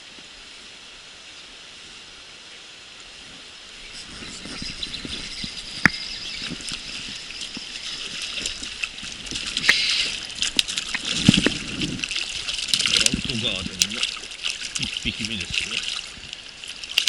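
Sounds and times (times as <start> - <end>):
water splashing: 3.2 - 17.0.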